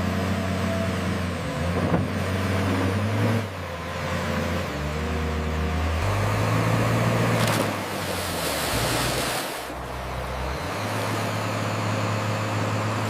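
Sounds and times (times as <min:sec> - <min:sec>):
diesel machinery engine running: 0:00.0 - 0:13.0.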